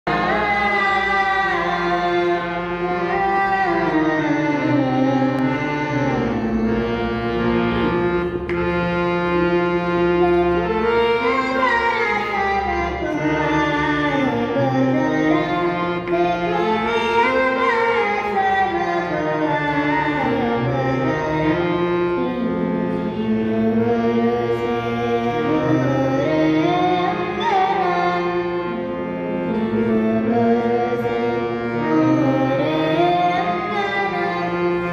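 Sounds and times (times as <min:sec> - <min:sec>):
harmonium accompaniment: 0:00.0 - 0:34.9.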